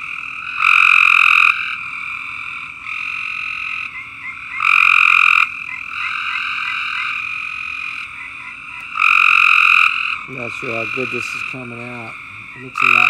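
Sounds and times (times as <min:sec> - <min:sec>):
loud frog call: 0:00.0 - 0:13.0
treefrog chorus: 0:00.0 - 0:13.0.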